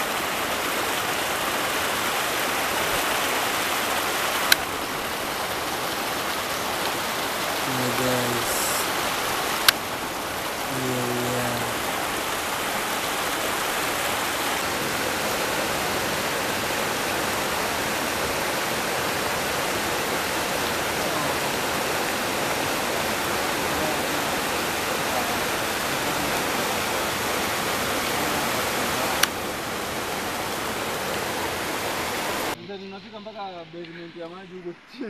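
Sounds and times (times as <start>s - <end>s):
stream water rushing over rocks: 0.0s - 32.6s.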